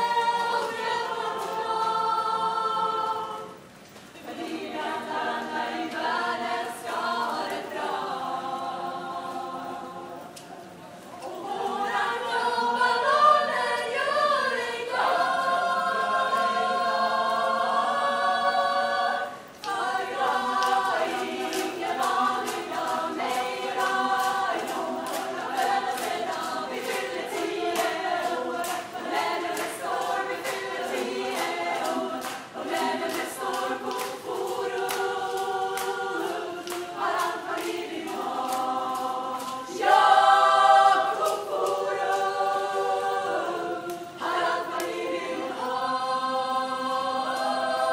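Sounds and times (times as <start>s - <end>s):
choir singing in harmony: 0.0s - 47.9s.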